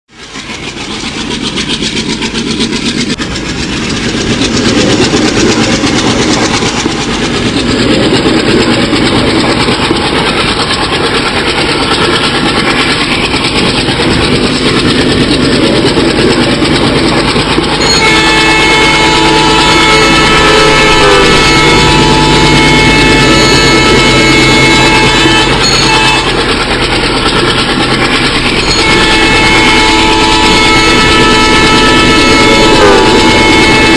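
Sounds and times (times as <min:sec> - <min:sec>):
diesel locomotive engine running: 0:00.1 - 0:33.9.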